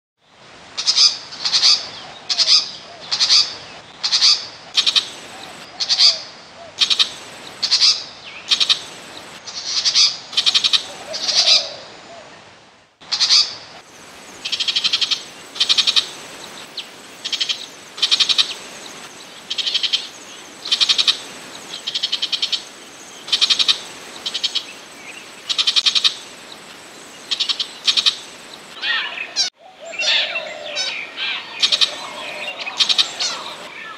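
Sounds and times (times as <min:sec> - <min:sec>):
bird chattering calls: 0:00.9 - 0:11.8, 0:14.3 - 0:26.6, 0:27.2 - 0:33.9.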